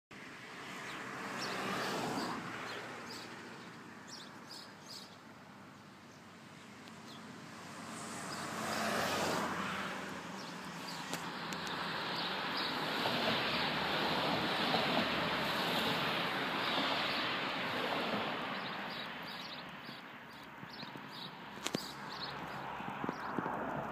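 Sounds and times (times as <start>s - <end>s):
road traffic passing: 0.1s - 23.9s.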